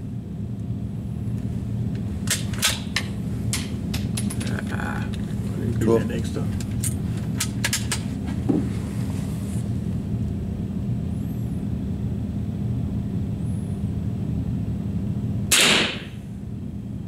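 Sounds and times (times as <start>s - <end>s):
low rumble with hum: 0.0s - 17.0s.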